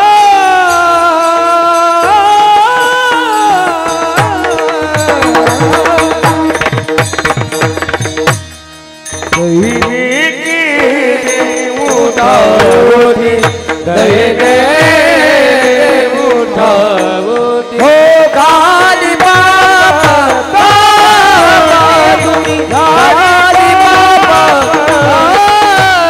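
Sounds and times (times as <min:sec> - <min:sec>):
man singing: 0:00.0 - 0:07.8, 0:09.3 - 0:26.0
drum strokes: 0:03.2 - 0:26.0.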